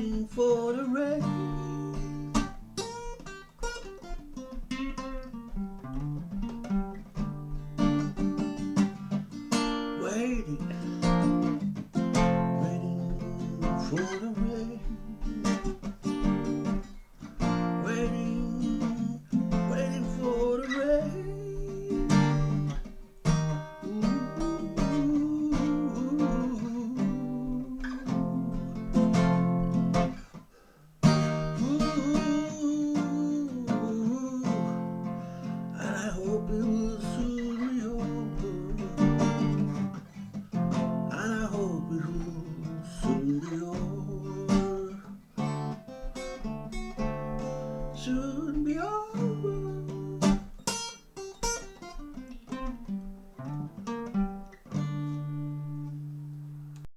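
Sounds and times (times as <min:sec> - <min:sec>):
strummed acoustic guitar: 0:00.0 - 0:56.9.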